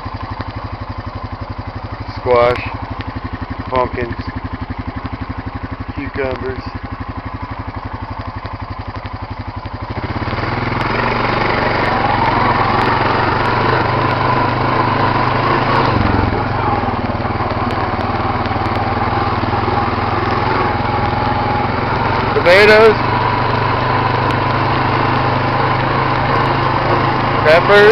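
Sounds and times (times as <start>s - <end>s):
quad engine revving: 0.0s - 27.9s.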